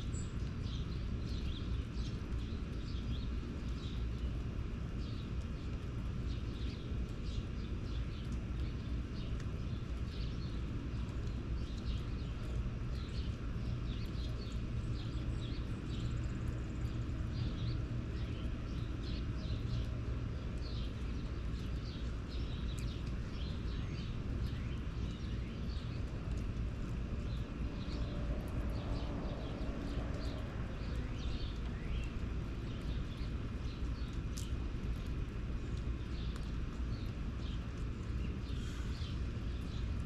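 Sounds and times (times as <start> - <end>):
small birds chirping: 0.0 - 40.0
steady low rumble: 0.0 - 40.0.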